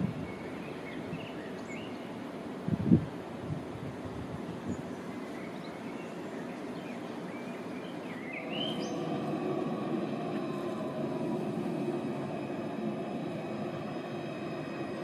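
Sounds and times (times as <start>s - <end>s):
tram rumbling: 0.0s - 15.0s
birds chirping: 0.1s - 2.3s, 4.6s - 15.0s.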